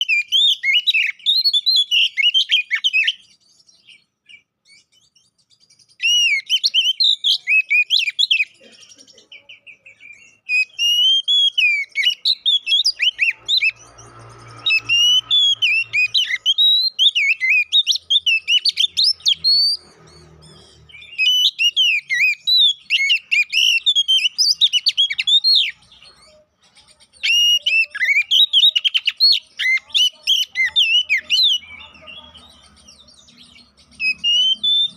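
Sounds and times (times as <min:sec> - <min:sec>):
bird singing whistled phrases: 0:00.0 - 0:08.6, 0:09.5 - 0:19.8, 0:20.7 - 0:34.9.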